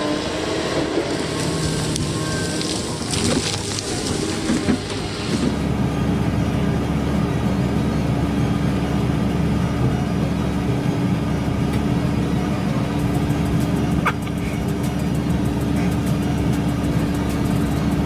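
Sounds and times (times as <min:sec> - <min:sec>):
heavy machine engine running: 0:00.0 - 0:18.0.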